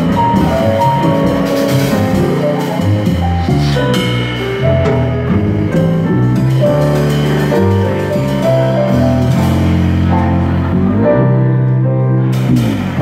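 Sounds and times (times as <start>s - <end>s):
double bass: 0.0s - 13.0s
drum kit: 0.0s - 13.0s
piano chords: 0.0s - 13.0s.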